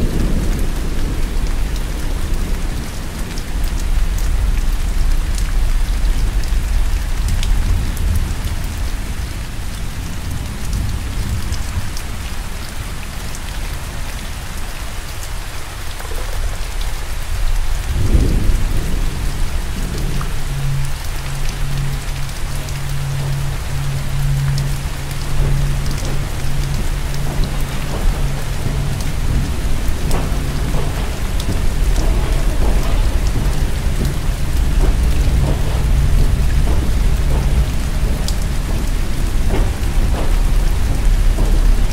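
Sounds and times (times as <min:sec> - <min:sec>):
low rumbling thunder: 0:00.0 - 0:14.3, 0:16.1 - 0:41.9
heavy rain: 0:00.0 - 0:41.9.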